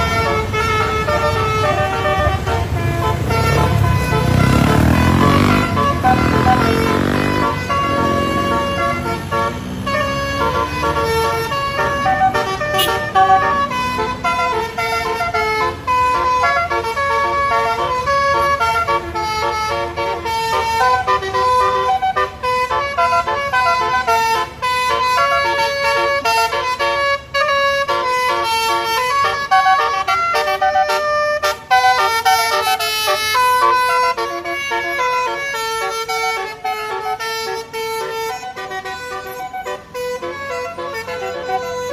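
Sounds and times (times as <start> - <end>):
musical bus horn melody: 0.0 - 41.9.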